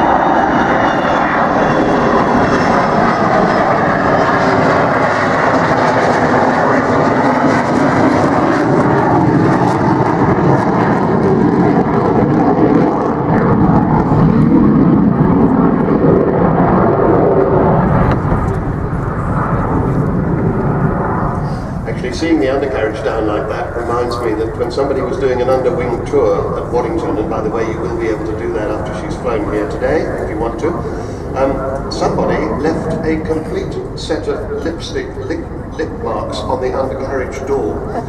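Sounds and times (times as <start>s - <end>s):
jet roar: 0.0s - 38.0s.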